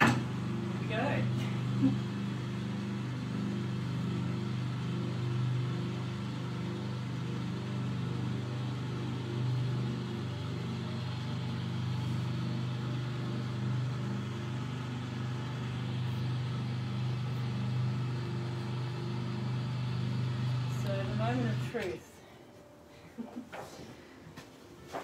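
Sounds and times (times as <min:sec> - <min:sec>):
press motor humming: 0:00.0 - 0:22.0.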